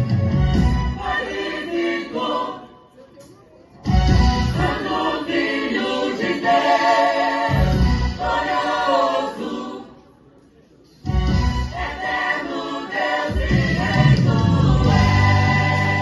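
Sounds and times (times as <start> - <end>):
choir singing gospel over band: 0.0 - 2.8, 4.0 - 10.0, 11.1 - 16.0.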